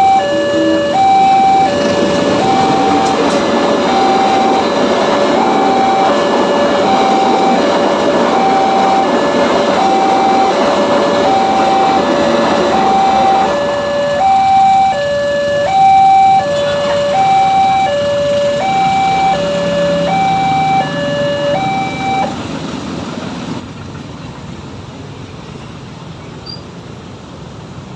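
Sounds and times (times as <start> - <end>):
railroad crossing two-tone alarm: 0.0 - 22.6
train passing: 0.0 - 27.9.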